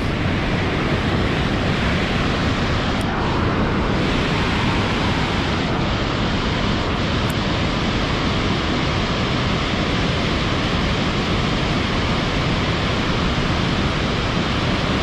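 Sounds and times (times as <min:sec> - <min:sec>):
white water pouring over falls: 0:00.0 - 0:15.0.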